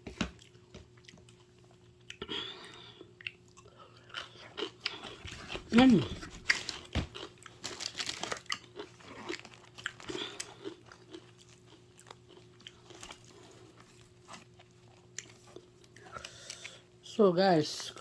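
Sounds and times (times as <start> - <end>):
chewing crunchy pizza crust: 0.0 - 17.0.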